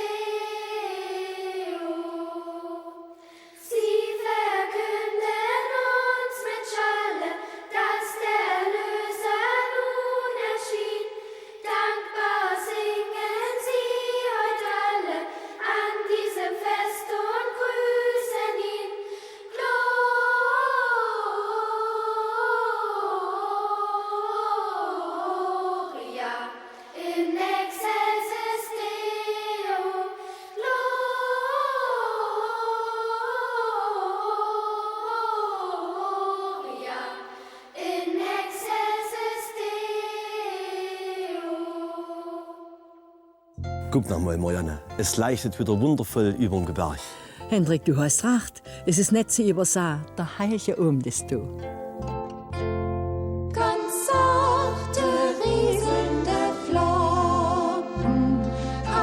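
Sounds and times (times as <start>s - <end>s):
choir of high voices singing: 0.0s - 44.8s, 53.5s - 59.0s.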